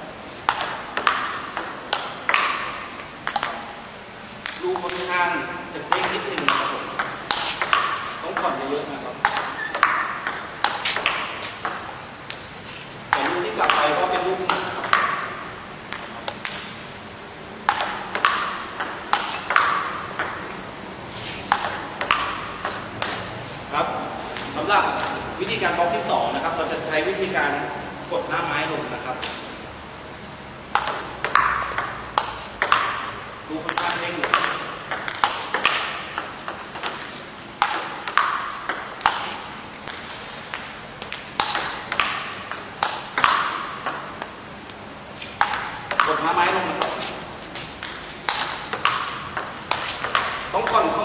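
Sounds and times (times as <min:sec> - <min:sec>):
table tennis ball rally: 0:00.4 - 0:12.4, 0:13.1 - 0:17.0, 0:17.6 - 0:20.7, 0:21.3 - 0:28.0, 0:30.7 - 0:44.5, 0:45.3 - 0:51.0.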